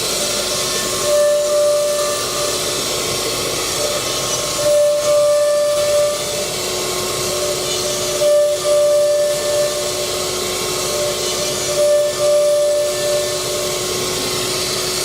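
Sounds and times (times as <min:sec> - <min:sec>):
router spindles whining: 0:00.0 - 0:15.0.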